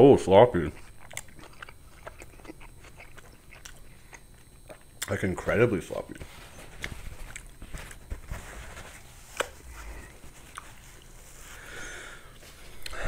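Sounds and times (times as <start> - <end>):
man chewing food: 0.6 - 13.0.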